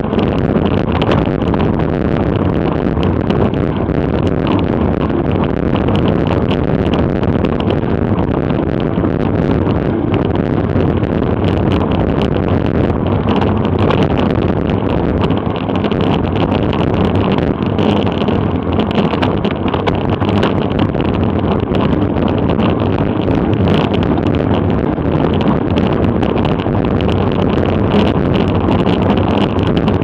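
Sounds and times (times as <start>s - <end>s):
small clicks and ticks: 0.0s - 30.0s
wind rushing over microphone: 0.0s - 30.0s.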